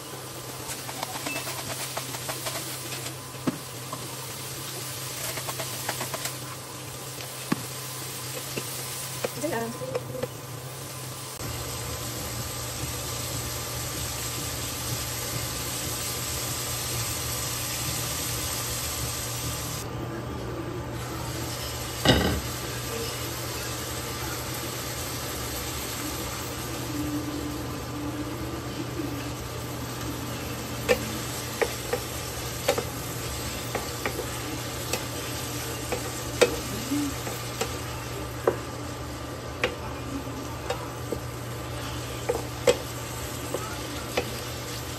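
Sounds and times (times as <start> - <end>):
vegetables sizzling in a pan: 0.0 - 19.9, 21.0 - 44.9.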